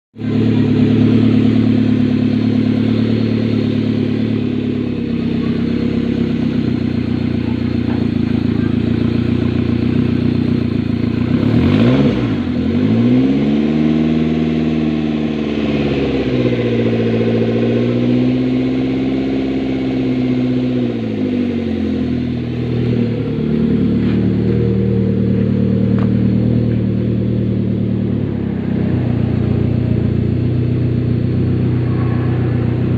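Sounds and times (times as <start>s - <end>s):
car engine revving and idling: 0.2s - 32.9s.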